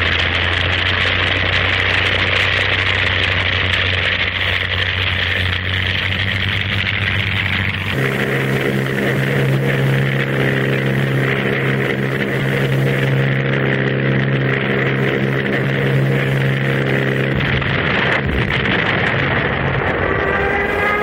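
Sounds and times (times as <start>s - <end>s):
aircraft piston engines droning: 0.0s - 21.0s.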